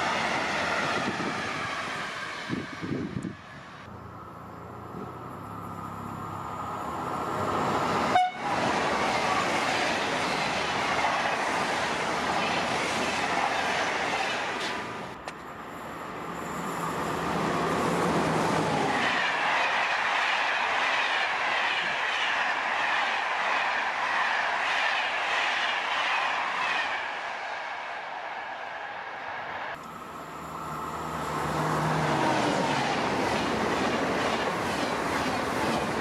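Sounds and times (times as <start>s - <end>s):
electric locomotive humming: 0.0s - 36.0s
trains passing at speed: 0.0s - 36.0s.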